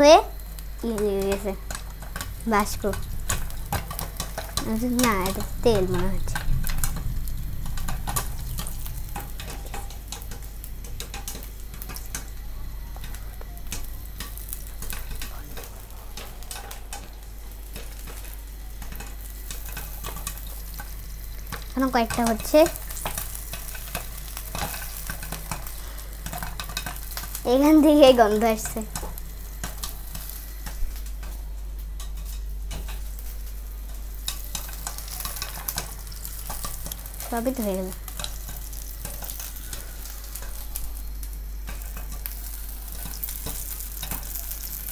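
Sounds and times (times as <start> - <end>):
popcorn kernels popping: 0.0 - 44.9
popcorn sizzling in hot oil: 0.0 - 44.9
steady low hum: 0.0 - 44.9.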